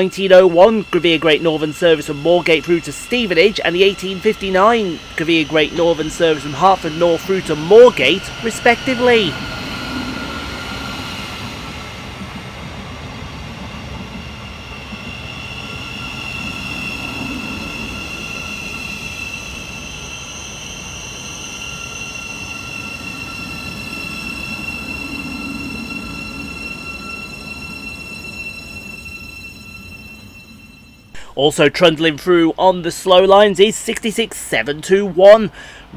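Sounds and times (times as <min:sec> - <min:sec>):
high ringing wheel squeal: 0:00.0 - 0:35.8
train rail rumble: 0:00.0 - 0:35.9.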